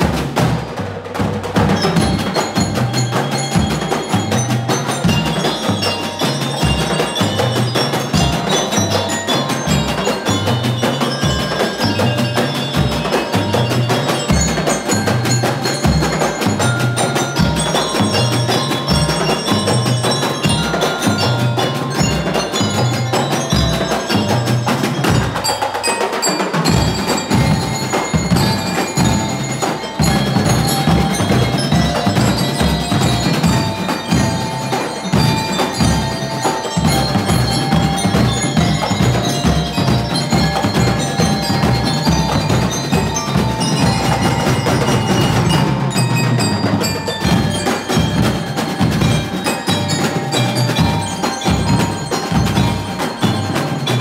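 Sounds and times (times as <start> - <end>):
steady drum beat: 0.0 - 54.0
band playing: 1.4 - 54.0.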